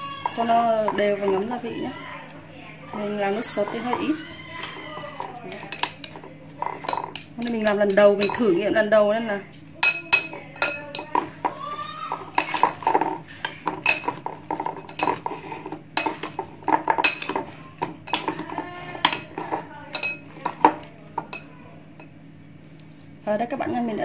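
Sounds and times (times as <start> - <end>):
utensils clinking against glass bowl: 0.0 - 22.2.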